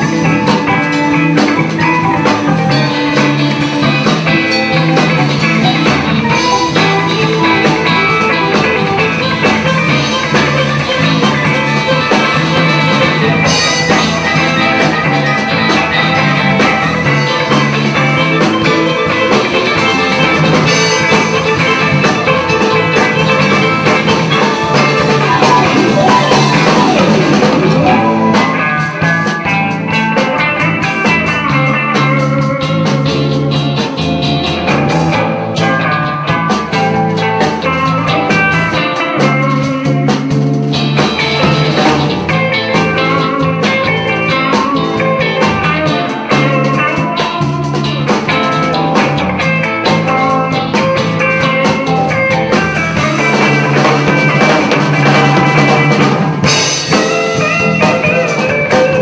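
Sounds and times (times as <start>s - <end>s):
band playing a pop ballad: 0.0s - 59.0s
electric guitar: 0.0s - 59.0s.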